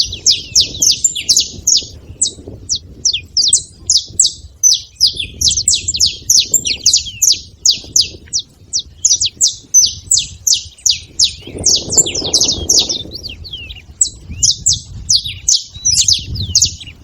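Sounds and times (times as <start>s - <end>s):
flock of finches chirping: 0.0s - 17.0s.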